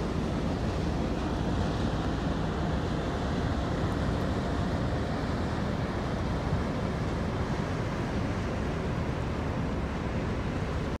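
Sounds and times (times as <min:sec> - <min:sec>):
motor boat running: 0:00.0 - 0:11.0
water rushing: 0:00.0 - 0:11.0.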